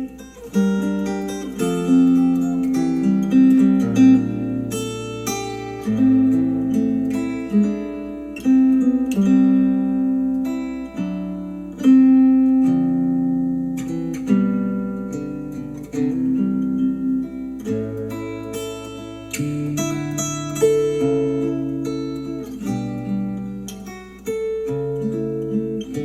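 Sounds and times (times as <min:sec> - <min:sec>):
acoustic guitar picked chords: 0:00.0 - 0:26.0.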